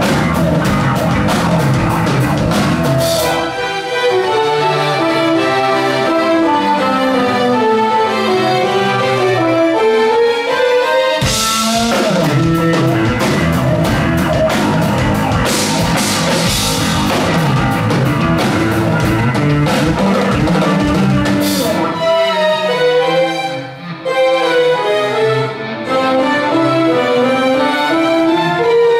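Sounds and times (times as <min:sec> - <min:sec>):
rock band playing: 0:00.0 - 0:28.9
sustained string-like chords: 0:00.0 - 0:28.9.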